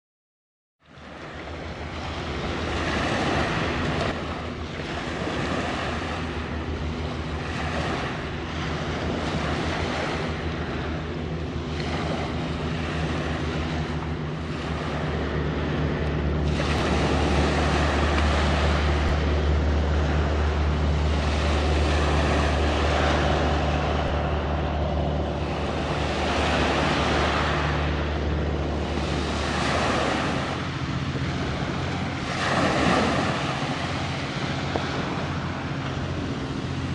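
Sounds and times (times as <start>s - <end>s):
ship engines droning: 0.8s - 36.9s
waves washing: 0.9s - 36.9s
wind on microphone: 1.0s - 36.9s.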